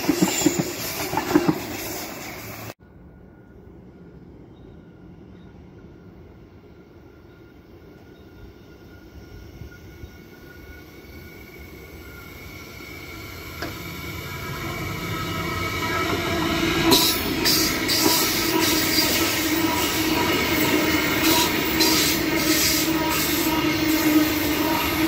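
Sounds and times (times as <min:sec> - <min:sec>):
electric train approaching: 0:00.0 - 0:25.0
high whine of train: 0:00.0 - 0:25.0.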